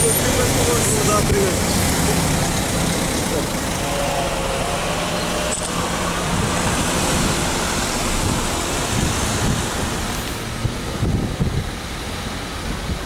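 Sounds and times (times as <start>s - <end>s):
traffic of idling cars: 0.0s - 13.0s.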